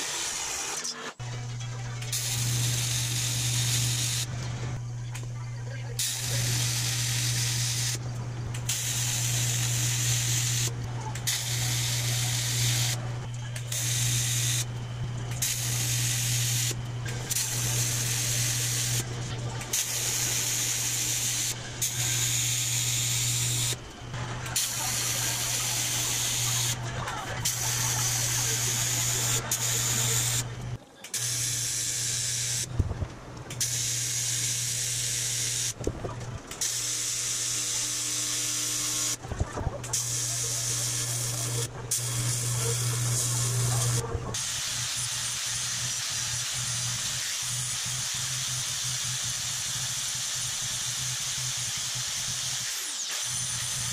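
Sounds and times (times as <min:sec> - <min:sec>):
welding arc buzzing hiss: 0:00.0 - 0:05.4, 0:06.0 - 0:53.9.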